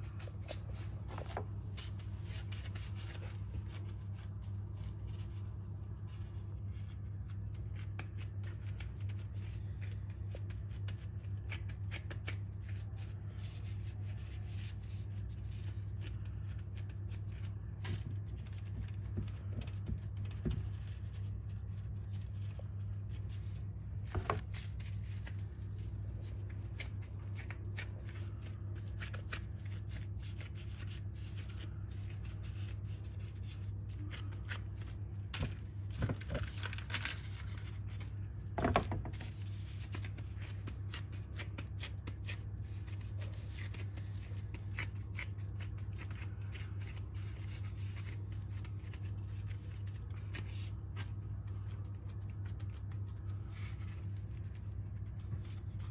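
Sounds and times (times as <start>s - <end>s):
gloved hands shaping minced meat: 0.0s - 55.9s.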